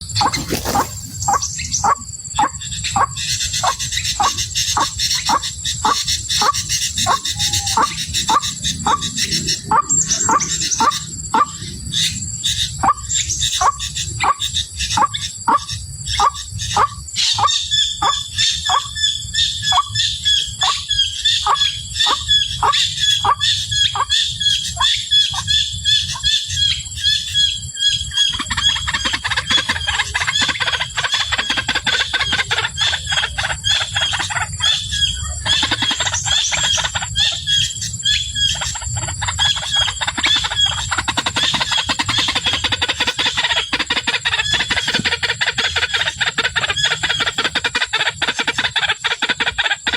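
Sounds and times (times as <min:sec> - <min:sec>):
waterhen calling: 0:00.0 - 0:19.0, 0:19.6 - 0:26.4, 0:28.2 - 0:49.9.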